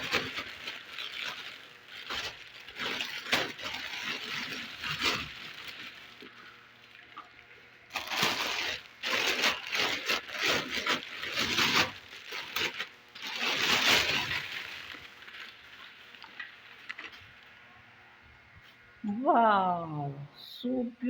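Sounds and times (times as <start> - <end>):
plastic packaging crinkling: 0.0 - 17.7.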